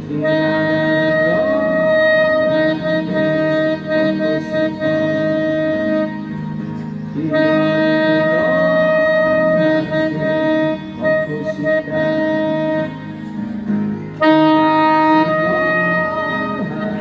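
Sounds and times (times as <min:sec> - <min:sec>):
backing accompaniment: 0:00.0 - 0:17.0
saxophone slow melody: 0:00.0 - 0:17.0.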